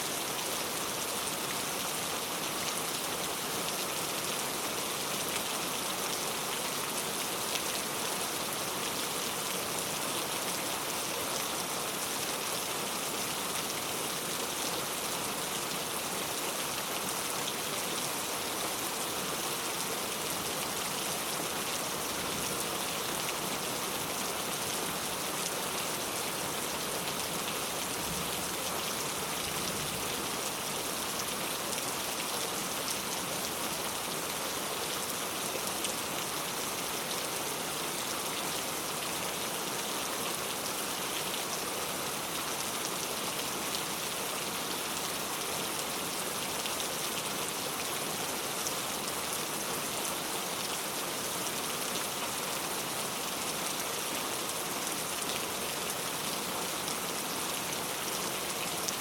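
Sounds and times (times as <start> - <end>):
heavy rain falling: 0.1 - 59.0.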